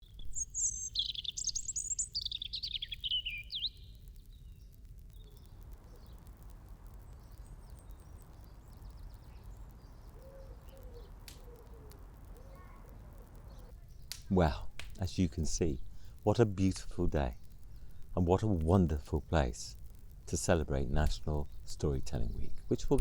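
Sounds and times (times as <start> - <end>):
faint distant birdsong: 0.0 - 23.0
songbird singing: 0.0 - 23.0.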